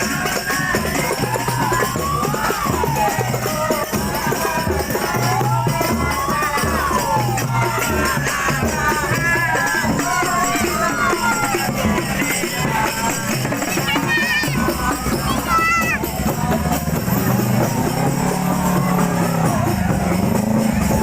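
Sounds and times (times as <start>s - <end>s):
frame drums with jingles: 0.0s - 21.0s
voices: 0.0s - 21.0s.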